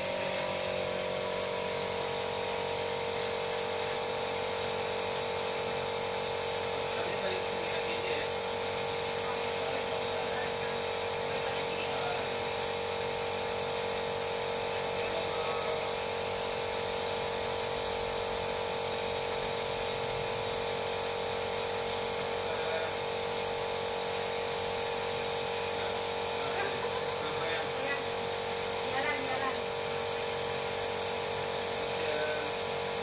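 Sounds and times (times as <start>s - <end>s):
small electric motor whirring: 0.0s - 33.0s.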